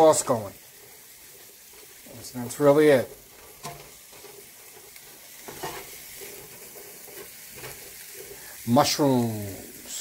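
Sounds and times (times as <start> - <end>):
mushrooms sizzling in a frying pan: 0.0 - 10.0
spatula stirring in a pan: 0.0 - 10.0.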